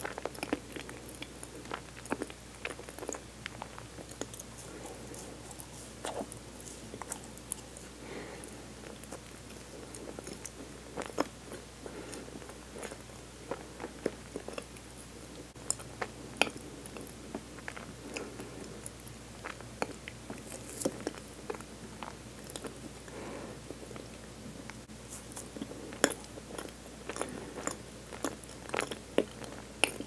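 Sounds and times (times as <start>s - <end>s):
person chewing with wet clicks: 0.0s - 23.1s, 23.9s - 30.0s.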